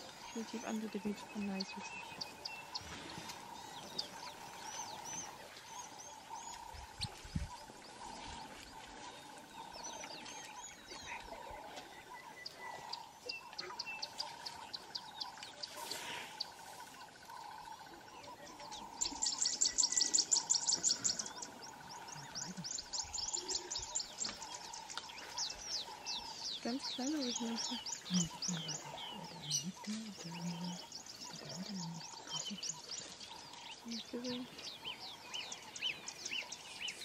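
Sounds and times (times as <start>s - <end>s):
wild birds chirping and whistling: 0.0s - 37.0s.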